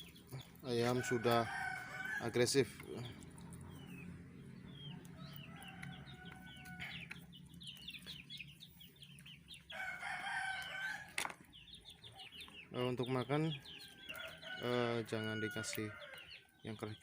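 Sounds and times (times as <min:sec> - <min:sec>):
chickens chirping: 0:00.0 - 0:17.0.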